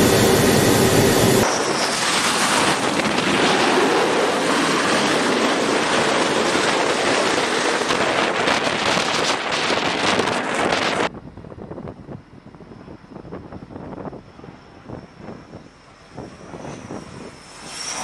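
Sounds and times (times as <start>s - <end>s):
wind buffeting microphone: 0.0s - 17.6s
jet engines roaring: 0.0s - 18.0s.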